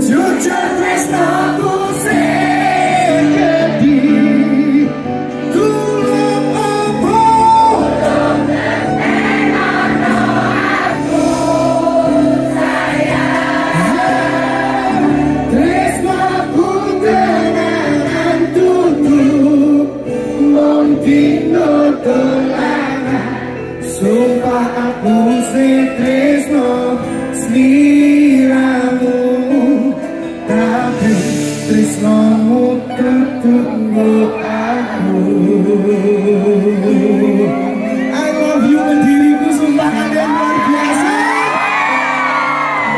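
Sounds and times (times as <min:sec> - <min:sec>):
man singing lead: 0:00.0 - 0:09.1, 0:13.4 - 0:42.9
crowd singing along: 0:00.0 - 0:42.9
live band music: 0:00.0 - 0:42.9.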